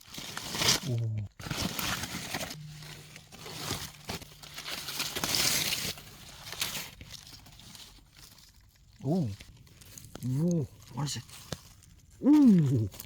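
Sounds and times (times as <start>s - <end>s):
dry leaves rustling and crackling: 0.0s - 13.0s
faint low hum: 0.5s - 13.0s.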